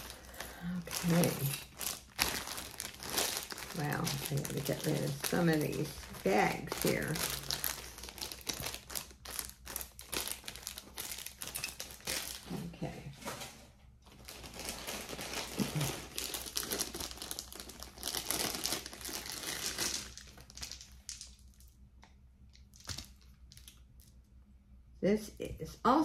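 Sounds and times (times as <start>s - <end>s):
bags crinkling: 0.0s - 13.4s, 14.1s - 21.7s.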